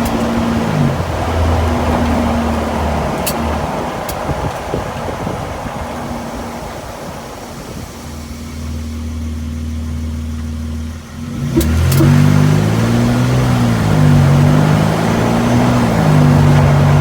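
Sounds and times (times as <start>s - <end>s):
car engine idling and accelerating: 0.0s - 17.0s.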